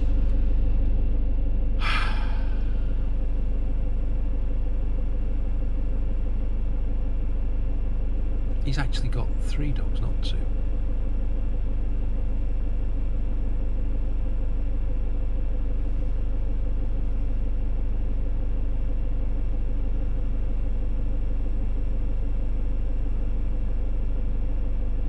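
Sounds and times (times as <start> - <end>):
van engine idling: 1.8 - 25.0.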